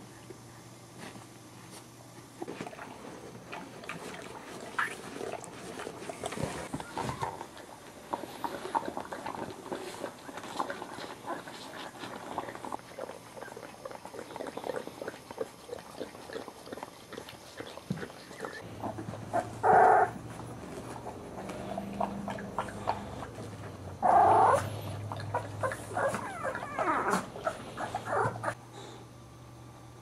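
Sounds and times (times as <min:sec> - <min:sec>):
puppies making small noises: 0:02.4 - 0:28.6.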